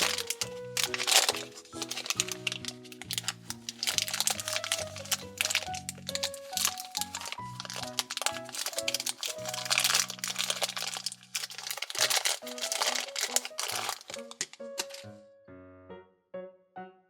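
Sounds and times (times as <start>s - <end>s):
plastic packaging crinkling: 0.0s - 15.1s
background music: 0.0s - 17.0s.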